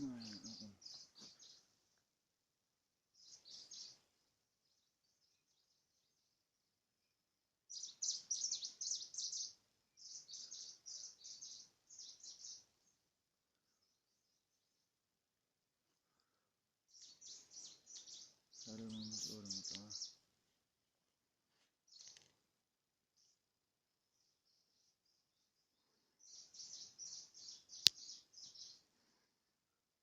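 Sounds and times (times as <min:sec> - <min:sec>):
small songbirds chirping: 0:00.0 - 0:02.2, 0:03.0 - 0:20.5, 0:21.5 - 0:29.8.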